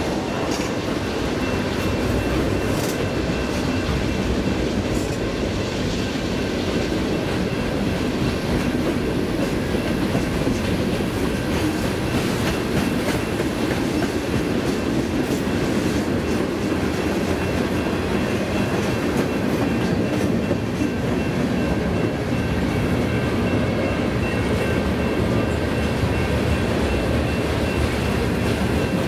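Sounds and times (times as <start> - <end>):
steel wheels rumbling on rail: 0.0 - 29.0.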